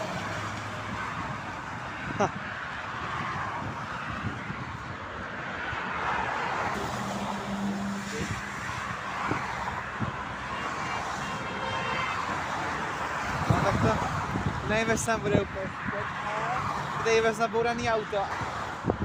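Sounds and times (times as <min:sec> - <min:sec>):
motorway traffic noise: 0:00.0 - 0:19.0.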